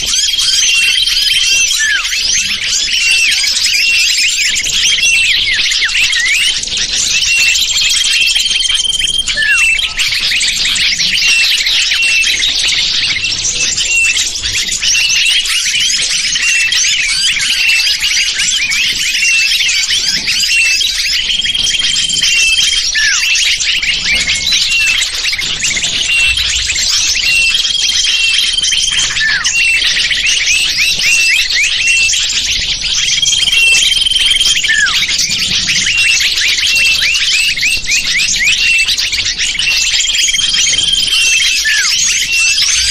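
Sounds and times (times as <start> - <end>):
small birds chirping and twittering: 0.0 - 42.9.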